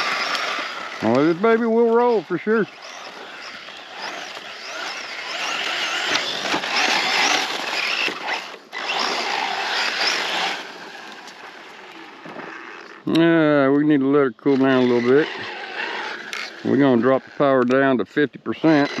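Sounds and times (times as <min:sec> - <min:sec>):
electric motor whining: 0:00.0 - 0:17.8, 0:18.5 - 0:19.0.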